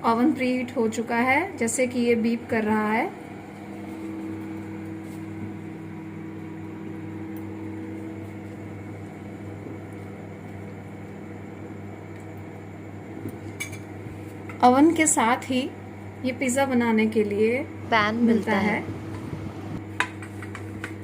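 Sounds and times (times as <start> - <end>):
microwave oven fan humming: 0.0 - 21.0.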